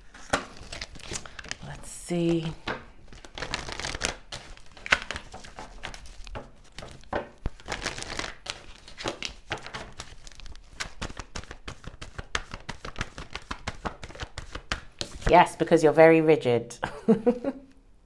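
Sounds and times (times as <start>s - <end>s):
cards being shuffled: 0.0s - 15.4s.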